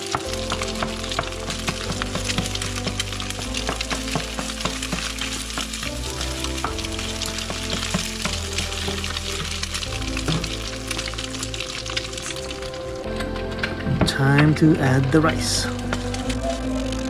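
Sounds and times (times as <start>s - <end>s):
eggs sizzling in a frying pan: 0.0s - 13.5s, 15.1s - 17.0s
background music with low notes: 0.0s - 17.0s.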